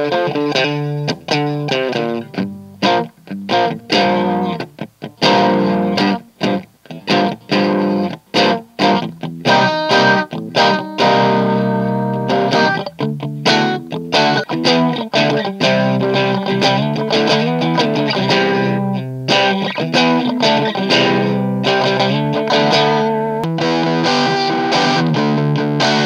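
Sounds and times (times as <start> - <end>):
electric guitar strummed chords: 0.0 - 26.0.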